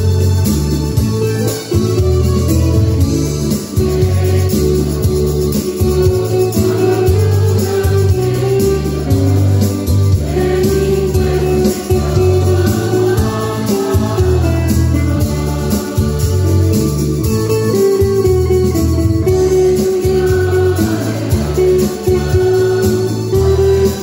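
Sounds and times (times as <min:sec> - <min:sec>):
instrumental accompaniment with bass: 0:00.0 - 0:24.0
choir singing a hymn: 0:02.9 - 0:17.9, 0:18.6 - 0:24.0.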